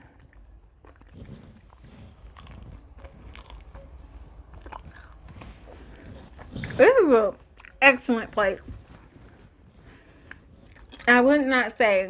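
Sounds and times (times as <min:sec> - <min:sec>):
person chewing food: 0:00.0 - 0:07.8, 0:08.7 - 0:11.1.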